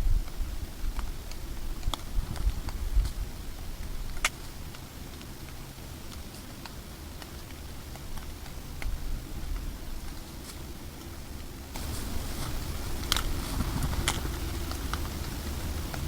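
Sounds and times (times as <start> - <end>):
faint ticks and clicks: 0.0 - 16.0
low outdoor rumble: 0.0 - 16.0.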